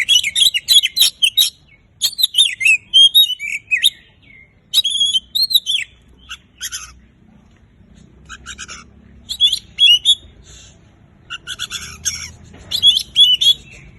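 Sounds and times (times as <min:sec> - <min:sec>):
songbird whistling and chattering: 0:00.0 - 0:07.1, 0:08.1 - 0:13.9.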